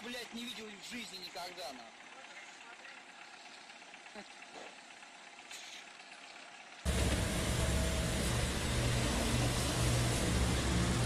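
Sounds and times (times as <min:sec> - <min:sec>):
paving machinery engine running: 0:00.0 - 0:11.0.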